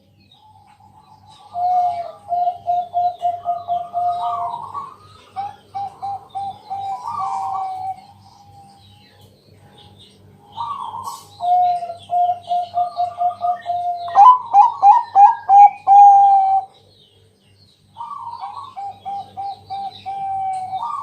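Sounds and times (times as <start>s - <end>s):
small birds chirping: 0.0s - 21.0s
dove cooing: 0.6s - 8.8s, 10.4s - 16.8s, 18.0s - 21.0s.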